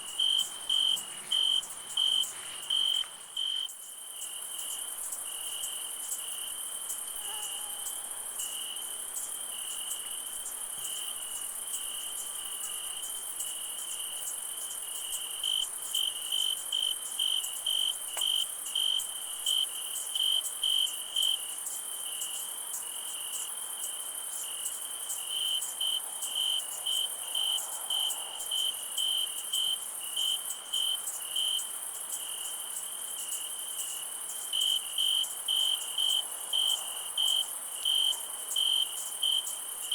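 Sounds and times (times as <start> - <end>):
cricket chirping: 0.0 - 39.9
high insect chorus: 0.0 - 39.9.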